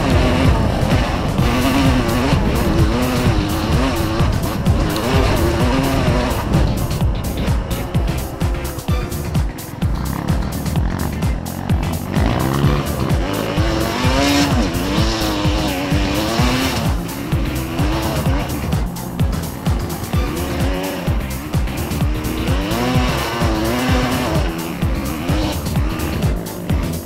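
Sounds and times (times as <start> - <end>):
background music: 0.0 - 27.0
dirt bike engine revving: 0.0 - 27.0.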